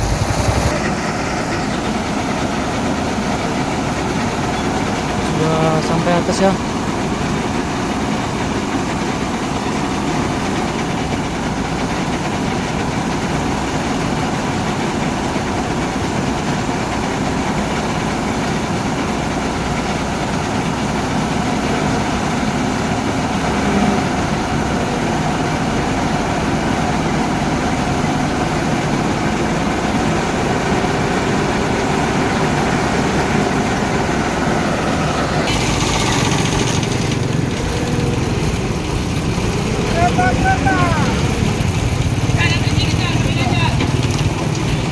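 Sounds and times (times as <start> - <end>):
heavy vehicle engine idling: 0.0 - 44.9.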